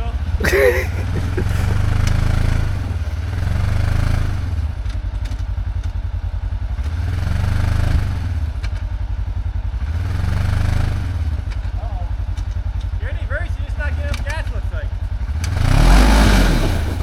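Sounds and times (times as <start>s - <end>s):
utility vehicle engine revving: 0.0s - 8.9s, 9.6s - 17.0s.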